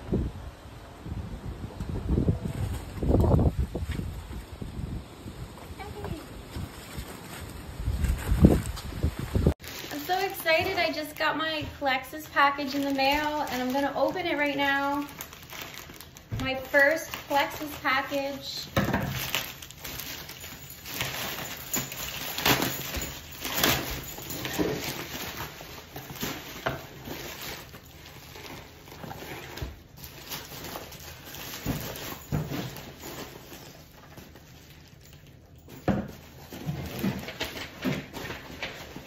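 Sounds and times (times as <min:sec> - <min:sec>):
plastic mailer rustling: 0:05.9 - 0:39.0.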